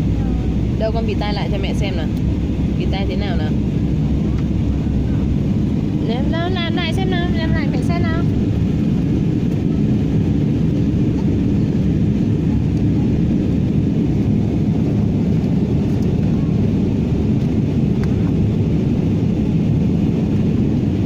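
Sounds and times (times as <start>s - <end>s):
airliner cabin drone: 0.0s - 21.0s.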